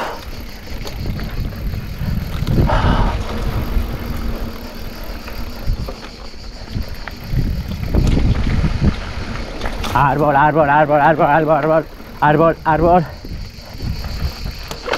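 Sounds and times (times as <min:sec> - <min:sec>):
bike rattling over bumps: 0:00.0 - 0:14.9
tyres rolling over dirt: 0:00.0 - 0:14.9
wind rumble on microphone: 0:00.0 - 0:14.9.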